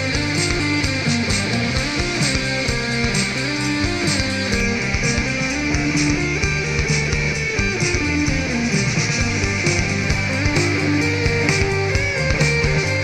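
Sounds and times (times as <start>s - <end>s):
guitar-led music with steady beat: 0.0s - 13.0s.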